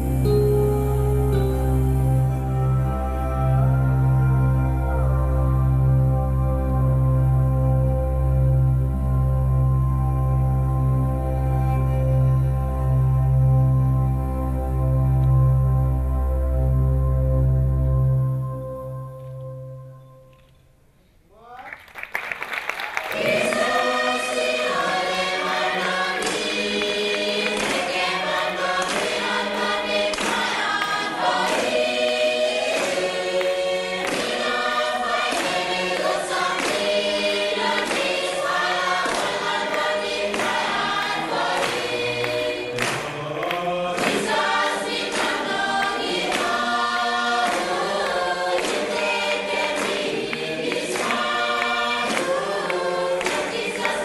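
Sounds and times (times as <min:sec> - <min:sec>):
choir singing with instruments: 0:00.0 - 0:20.0, 0:23.0 - 0:54.0.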